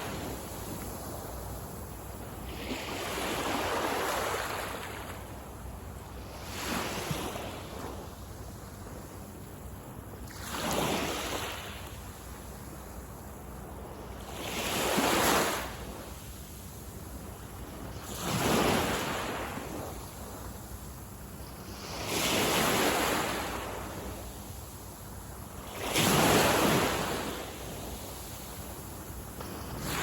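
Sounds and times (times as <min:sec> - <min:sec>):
small waves breaking on sand: 0:00.0 - 0:30.0
wind rumble on microphone: 0:00.0 - 0:30.0.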